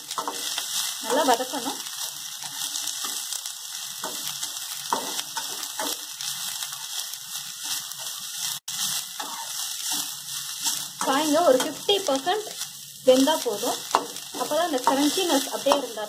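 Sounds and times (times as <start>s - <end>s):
vegetables sizzling in hot oil: 0.0s - 16.0s
spatula scraping pan: 0.1s - 12.8s, 13.4s - 16.0s.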